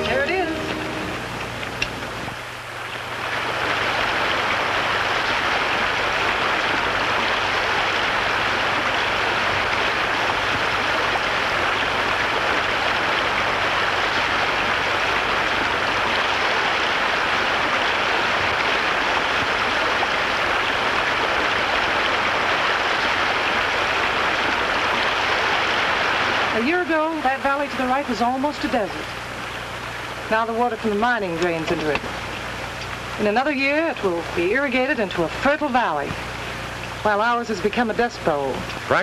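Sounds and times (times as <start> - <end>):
water jets rushing: 0.0 - 39.0.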